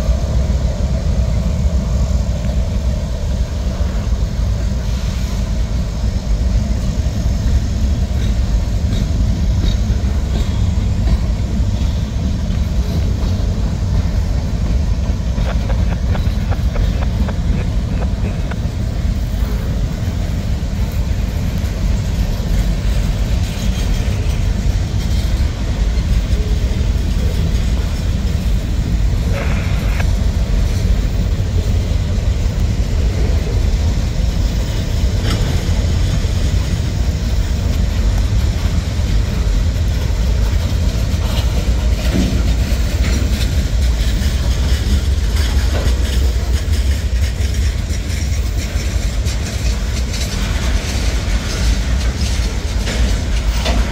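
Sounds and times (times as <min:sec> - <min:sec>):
steel wheels rumbling on rail: 0:00.0 - 0:53.9
wheels clicking over rail joints: 0:00.0 - 0:53.9.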